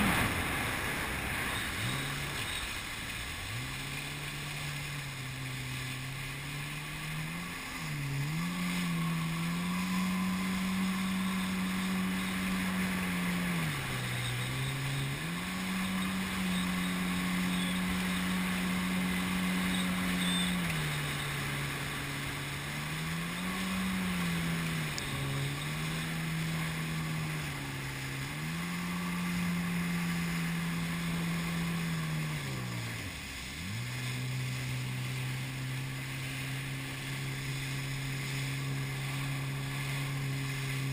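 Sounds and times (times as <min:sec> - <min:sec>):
hiss of water and wind: 0:00.0 - 0:40.9
jet ski engine running: 0:00.0 - 0:40.9.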